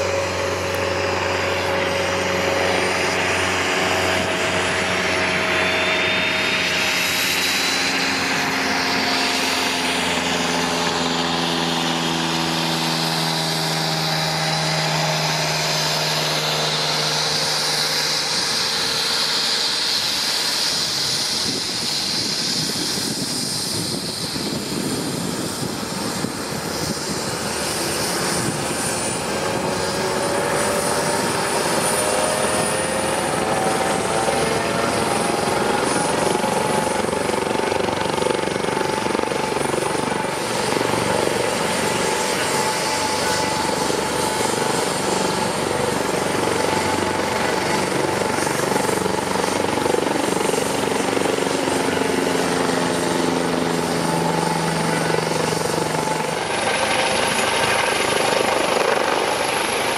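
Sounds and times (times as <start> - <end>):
helicopter turbine rush and whine: 0.0 - 59.9.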